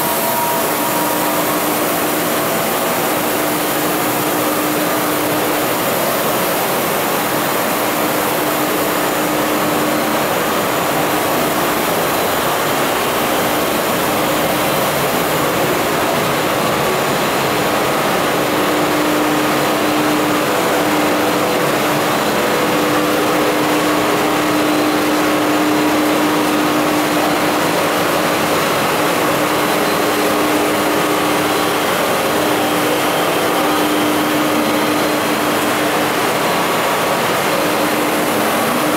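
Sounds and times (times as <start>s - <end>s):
printing machinery droning: 0.0s - 38.9s.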